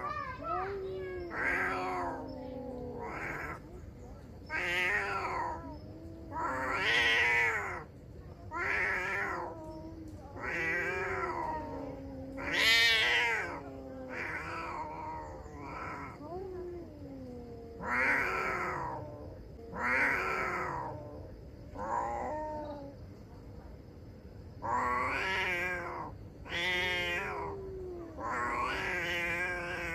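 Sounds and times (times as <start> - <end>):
cats yowling: 0.0 - 23.0, 24.6 - 29.9.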